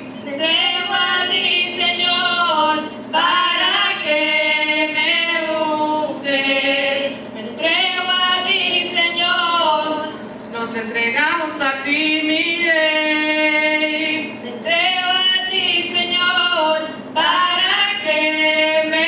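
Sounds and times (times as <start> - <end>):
group singing unaccompanied: 0.2 - 10.2, 12.0 - 19.0.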